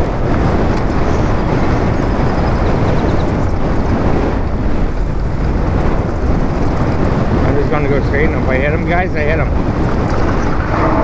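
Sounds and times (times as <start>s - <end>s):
bike tyres rolling on gravel: 0.0s - 11.0s
wind on microphone: 0.0s - 11.0s.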